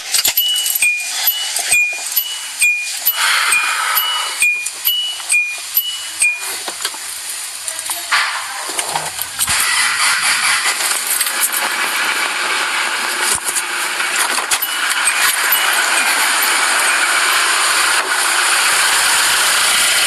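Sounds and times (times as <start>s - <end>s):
diesel engine starting: 0.0s - 20.0s
exhaust hissing rush: 0.7s - 20.0s.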